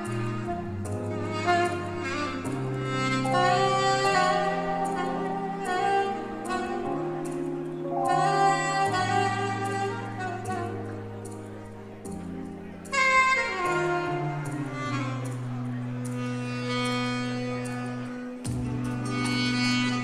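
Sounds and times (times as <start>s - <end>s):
saxophone playing slow melody: 0.0s - 20.0s
sustained low backing accompaniment: 0.0s - 20.0s.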